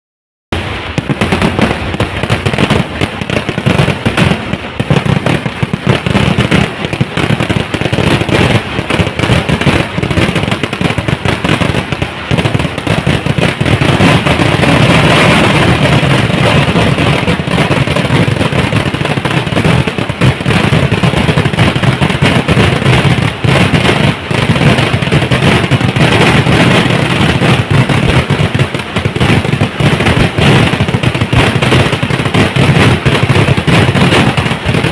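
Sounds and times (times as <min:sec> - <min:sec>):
fireworks exploding in rapid bursts: 0:00.5 - 0:34.9.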